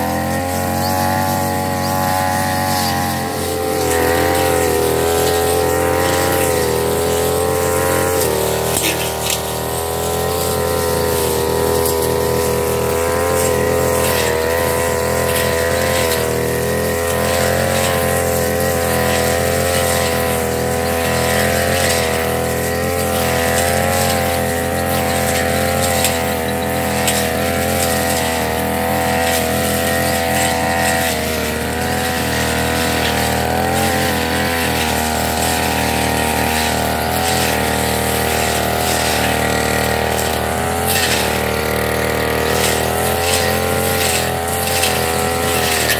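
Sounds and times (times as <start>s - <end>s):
brush cutter engine cutting weeds: 0.0s - 45.9s.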